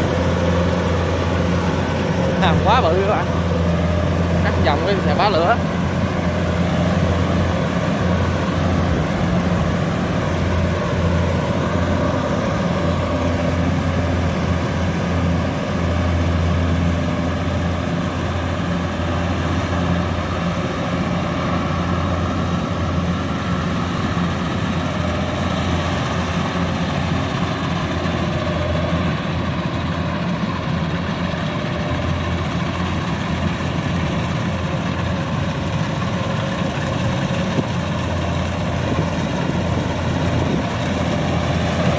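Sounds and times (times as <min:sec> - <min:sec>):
combine harvester diesel engine: 0:00.0 - 0:41.9.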